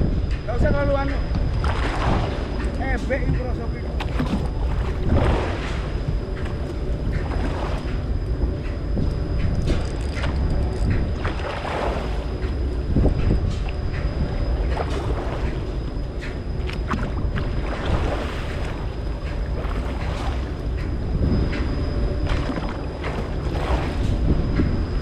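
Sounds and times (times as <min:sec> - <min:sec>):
boat engine running: 0:00.0 - 0:25.0
wind buffeting microphone: 0:00.0 - 0:25.0.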